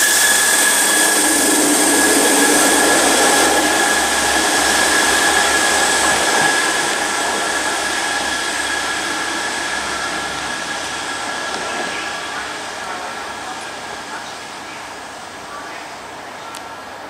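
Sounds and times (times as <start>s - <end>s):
diesel train engines whining: 0.0s - 17.0s.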